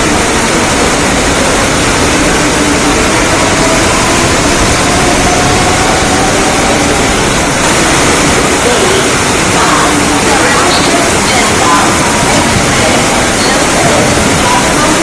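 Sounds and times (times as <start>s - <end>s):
heavy rain rushing: 0.0s - 15.0s
train running noise: 0.0s - 15.0s.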